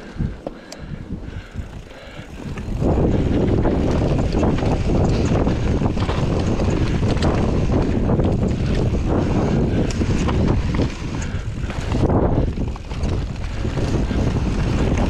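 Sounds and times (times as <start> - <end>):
wind noise on microphone: 0.0 - 15.0
bike frame rattling: 1.2 - 15.0.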